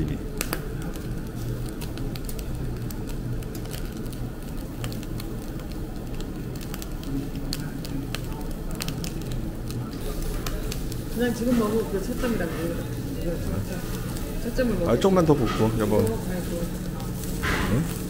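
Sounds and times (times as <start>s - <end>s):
charcoal crackles and pops: 0.0s - 18.0s
meat sizzling on charcoal: 0.0s - 18.0s.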